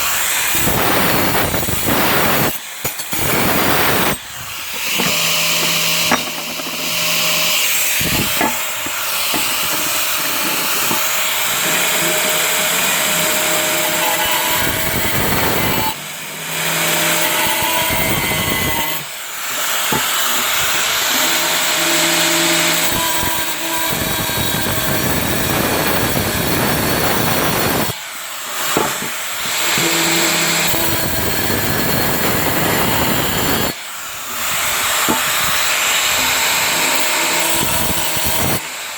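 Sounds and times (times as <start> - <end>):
angle grinder cutting tile: 0.0 - 38.9.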